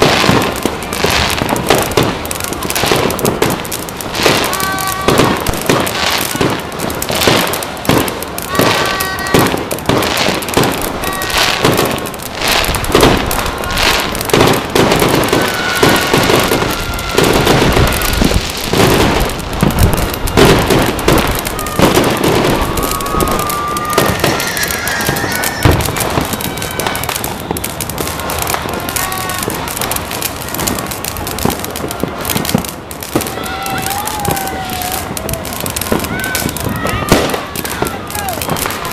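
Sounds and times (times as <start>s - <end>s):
firecrackers crackling and popping: 0.0s - 38.9s
fireworks bangs: 0.0s - 38.9s
high whistling fireworks: 0.0s - 38.9s.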